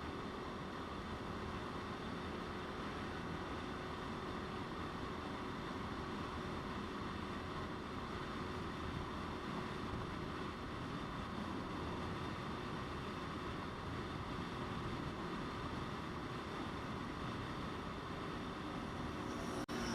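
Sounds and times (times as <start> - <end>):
motorcycle engine hum: 0.0 - 19.9
wind and road noise: 0.0 - 19.9.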